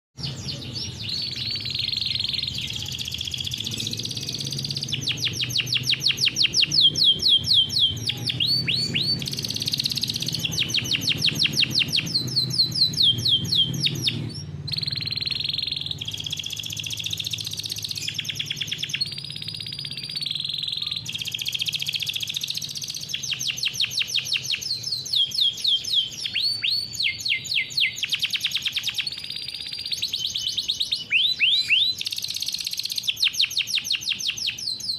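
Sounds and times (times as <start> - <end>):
canary singing: 0.2 - 34.9.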